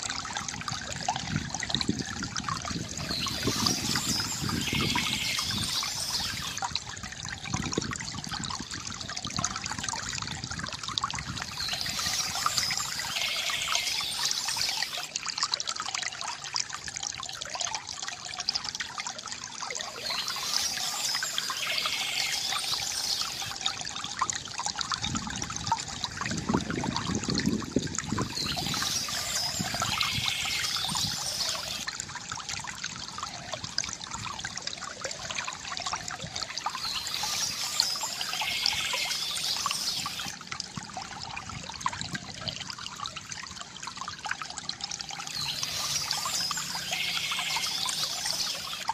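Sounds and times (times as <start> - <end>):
water trickling from bamboo spout: 0.0 - 48.9.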